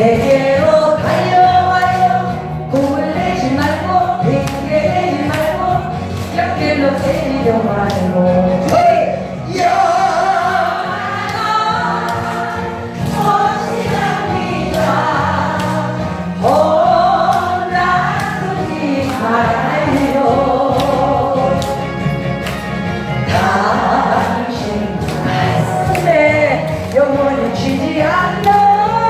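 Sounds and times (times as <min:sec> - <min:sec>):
choir singing: 0:00.0 - 0:07.9, 0:09.4 - 0:22.2, 0:23.1 - 0:29.0
trot song with backing track: 0:00.0 - 0:29.0.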